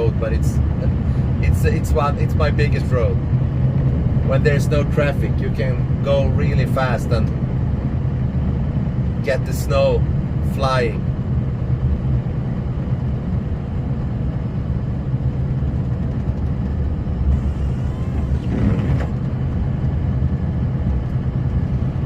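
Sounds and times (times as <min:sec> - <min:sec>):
snowplow truck driving through snow: 0:00.0 - 0:22.0.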